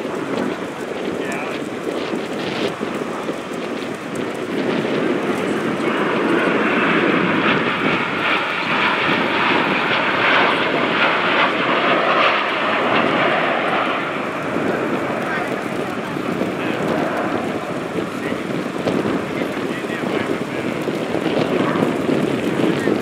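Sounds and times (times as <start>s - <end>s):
jet engines passing over: 0.0s - 23.0s.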